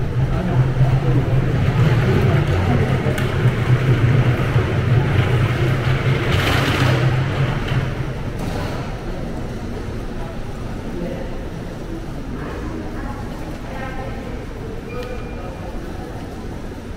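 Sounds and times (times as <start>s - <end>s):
low mechanical rumble: 0.0s - 16.9s.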